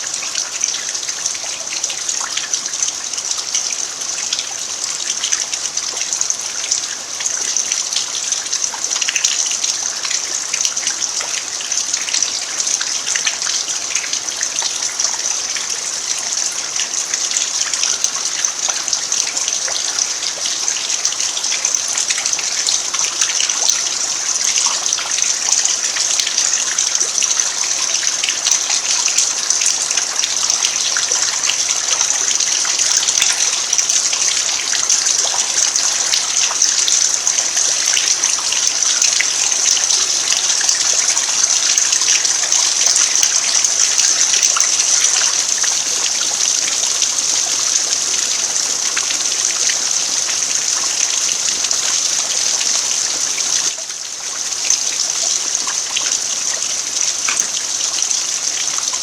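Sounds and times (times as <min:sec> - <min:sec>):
rain falling on dirt: 0:00.0 - 0:59.0.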